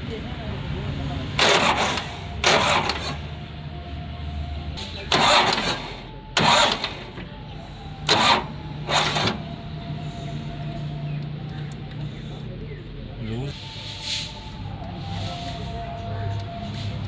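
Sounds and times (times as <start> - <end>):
tractor diesel engine humming: 0.0 - 17.0.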